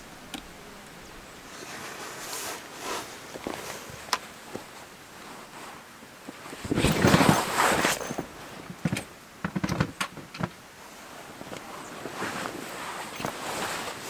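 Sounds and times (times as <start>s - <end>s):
tent fabric rustling: 0.0s - 14.0s.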